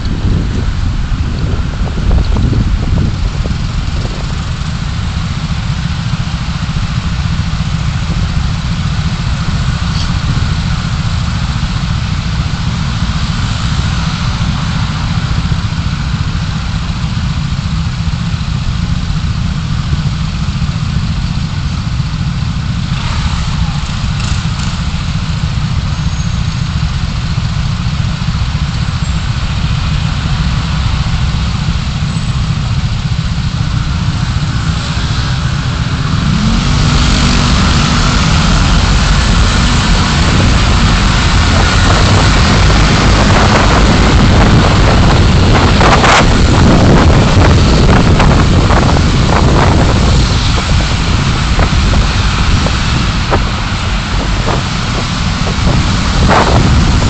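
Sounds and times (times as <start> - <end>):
car engine rumbling: 0.0 - 57.0
road noise inside car: 0.0 - 57.0.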